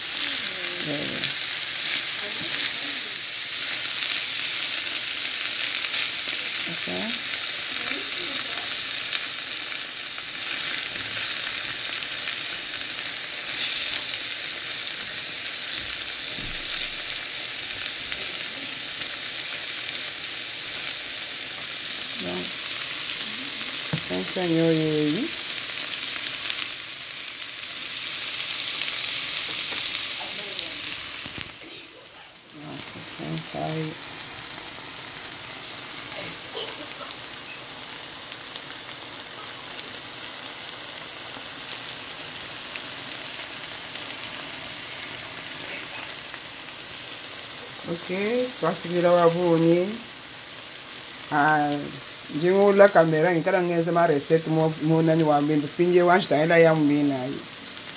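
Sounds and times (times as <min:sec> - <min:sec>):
fish frying in a pan: 0:00.0 - 0:57.9.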